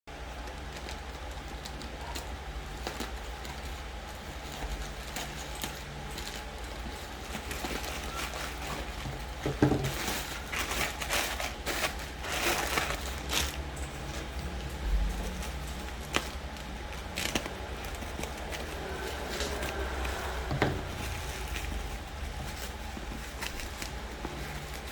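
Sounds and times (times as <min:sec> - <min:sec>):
low steady hum: 0:00.1 - 0:24.9
packaging rustling: 0:00.1 - 0:24.9
packaging crinkling and clicking: 0:00.2 - 0:24.9.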